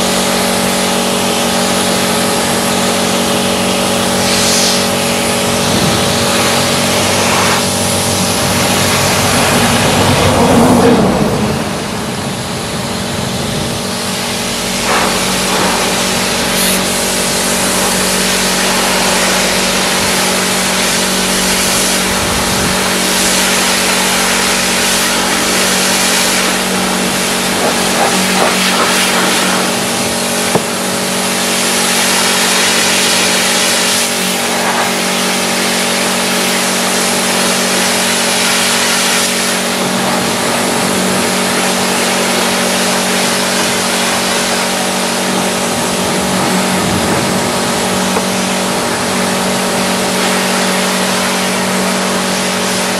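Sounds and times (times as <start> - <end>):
high-pressure water jet hissing: 0.0 - 52.9
pressure washer motor humming: 0.0 - 52.9.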